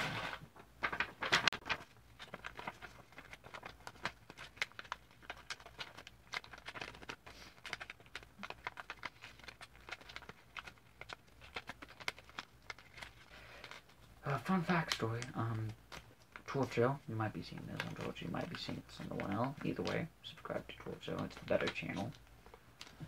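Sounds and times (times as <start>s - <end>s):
paper rustling and crinkling: 0.0s - 23.0s.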